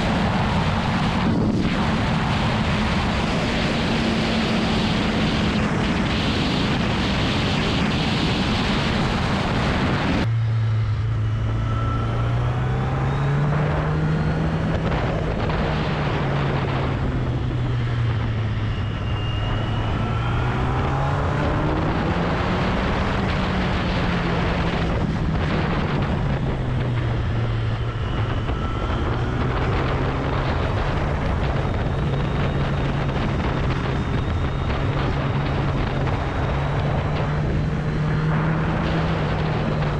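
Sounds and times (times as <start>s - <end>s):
motorcycle engine revving: 0.0s - 39.9s
wind rush on microphone: 0.0s - 39.9s.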